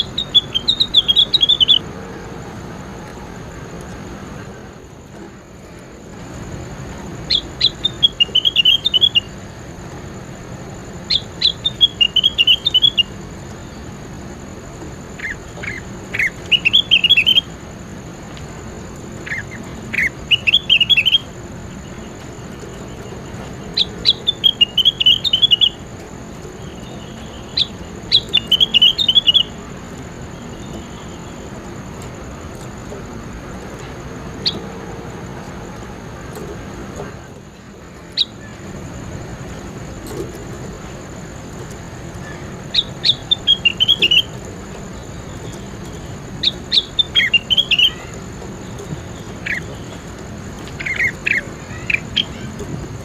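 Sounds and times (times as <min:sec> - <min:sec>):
songbird chirping: 0:00.0 - 0:01.9, 0:03.8 - 0:53.0.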